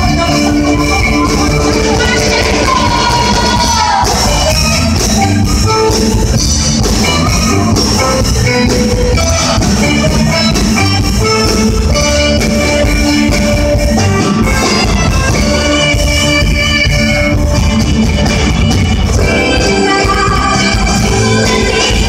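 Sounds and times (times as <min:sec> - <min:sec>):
bass guitar: 0:00.0 - 0:22.0
drum kit: 0:00.0 - 0:22.0
electric guitar: 0:00.0 - 0:22.0
keyboard: 0:00.0 - 0:22.0
saxophone: 0:00.0 - 0:22.0.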